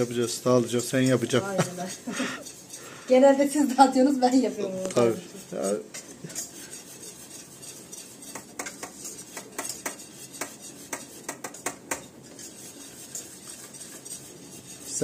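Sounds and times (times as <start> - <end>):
spoon scraping a pot: 0.0 - 15.0.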